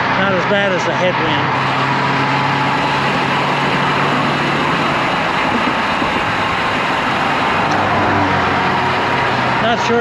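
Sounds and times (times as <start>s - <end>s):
road traffic noise: 0.0s - 10.0s
wind buffeting microphone: 1.5s - 9.6s.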